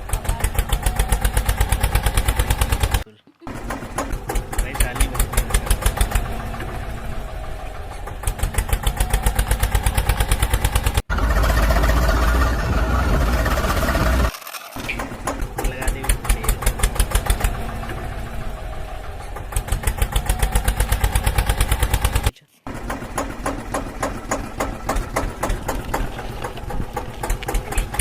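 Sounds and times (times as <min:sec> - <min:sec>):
tractor engine chugging: 0:00.0 - 0:28.0.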